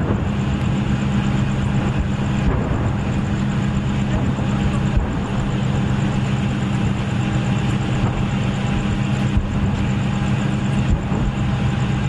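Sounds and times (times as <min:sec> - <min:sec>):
constant rushing noise: 0:00.0 - 0:12.0
vehicle engine idling: 0:00.0 - 0:12.0.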